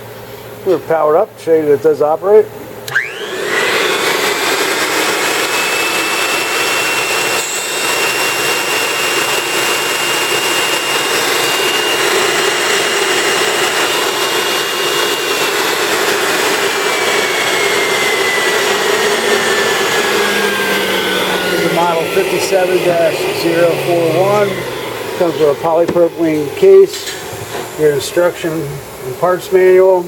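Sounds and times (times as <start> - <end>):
grinder motor whining: 2.8 - 27.7.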